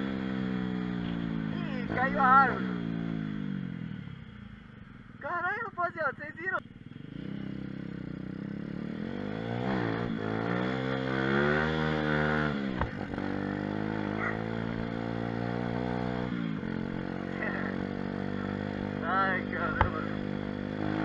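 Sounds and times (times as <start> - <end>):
pit bike engine revving: 0.0 - 4.3, 6.6 - 21.0.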